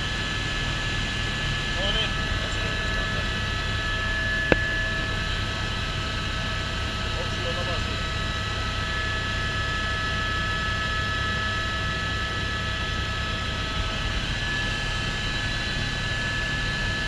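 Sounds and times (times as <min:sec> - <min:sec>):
constant high whine: 0:00.0 - 0:17.0
helicopter engine and rotor drone: 0:00.0 - 0:17.0.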